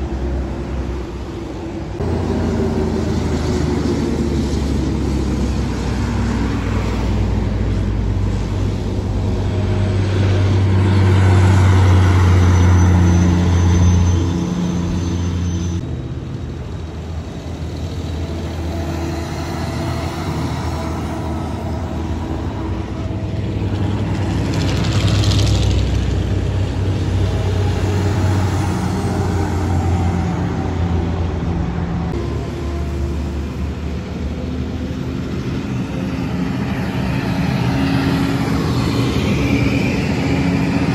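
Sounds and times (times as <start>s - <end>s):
diesel trucks passing on highway: 0.0s - 40.9s.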